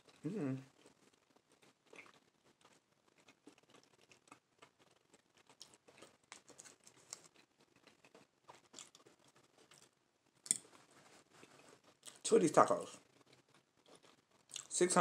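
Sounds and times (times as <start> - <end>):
chewing food: 0.0 - 14.8.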